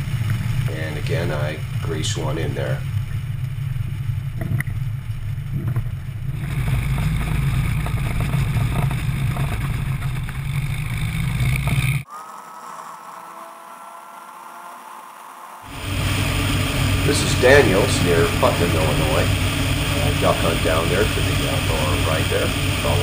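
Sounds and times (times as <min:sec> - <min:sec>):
light plane engine running: 0:00.0 - 0:23.0
steady hum with faint tone: 0:00.0 - 0:23.0.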